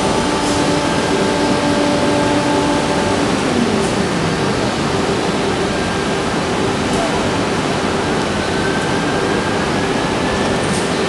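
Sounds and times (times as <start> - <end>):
cnc router mechanical hum: 0.0 - 11.0.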